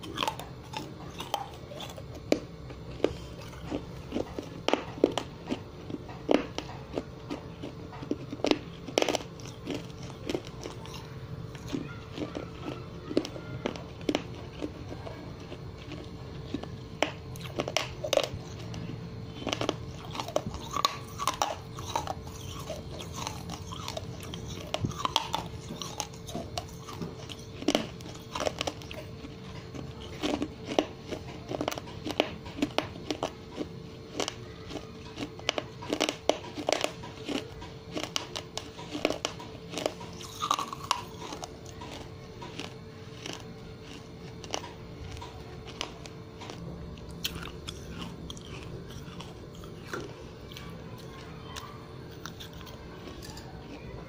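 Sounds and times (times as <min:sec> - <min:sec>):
faint steady hum: 0:00.0 - 0:54.0
person chewing crunchy food: 0:00.0 - 0:54.0.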